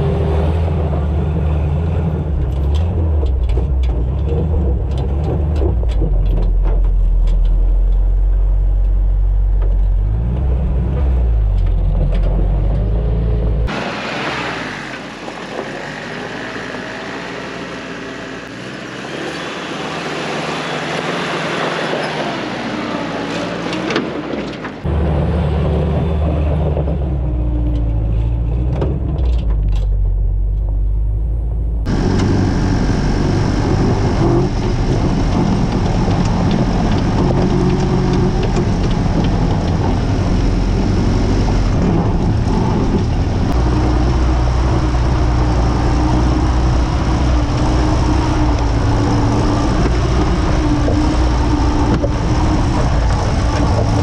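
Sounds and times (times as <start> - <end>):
jeep engine running under load: 0.0 - 54.0.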